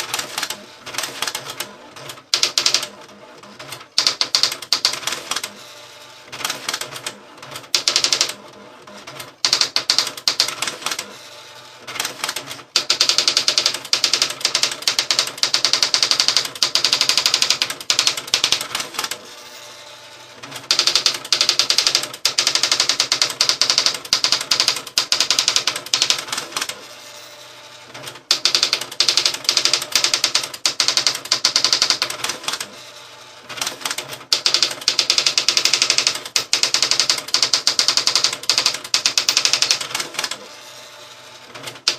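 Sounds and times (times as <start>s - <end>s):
electronic typewriter clatter: 0.0s - 41.9s.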